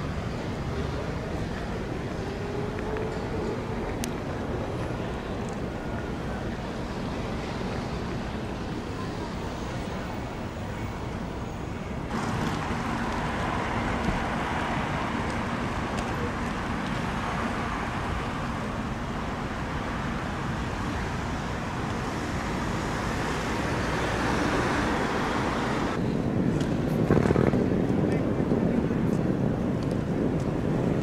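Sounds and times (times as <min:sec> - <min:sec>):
cars and buses passing: 0:00.0 - 0:31.0.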